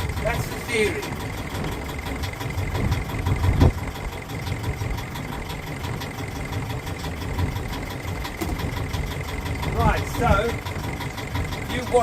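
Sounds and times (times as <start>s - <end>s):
diesel boat engine idling: 0.0s - 12.0s.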